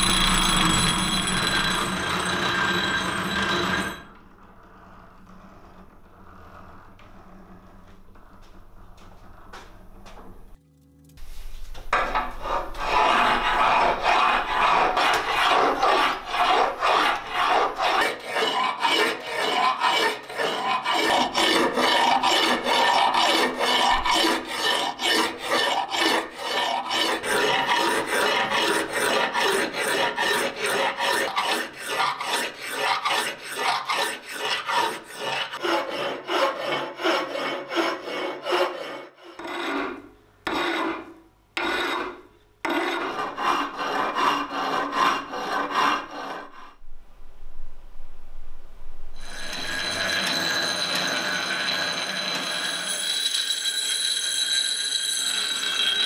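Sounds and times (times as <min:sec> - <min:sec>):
file rasping on steel: 0:00.0 - 0:04.1, 0:12.0 - 0:46.8, 0:49.2 - 0:56.0.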